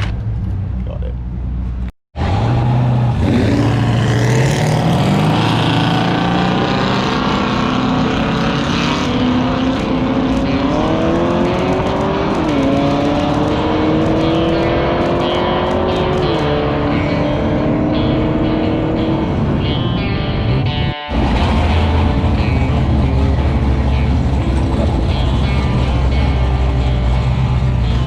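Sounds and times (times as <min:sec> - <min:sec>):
car engine at full throttle: 0:01.4 - 0:28.0.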